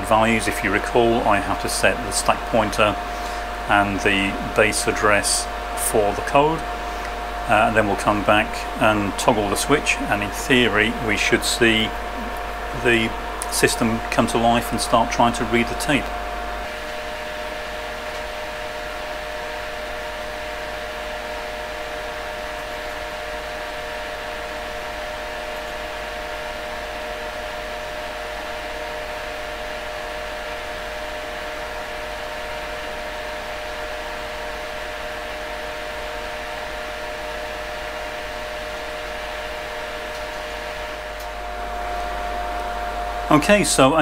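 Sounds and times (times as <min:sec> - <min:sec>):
cooling fans whirring hum: 0:00.0 - 0:44.0.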